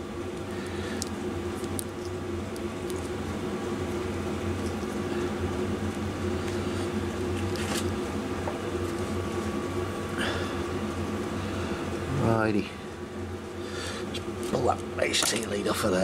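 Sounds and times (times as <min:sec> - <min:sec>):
fan-like machine humming: 0:00.0 - 0:16.0.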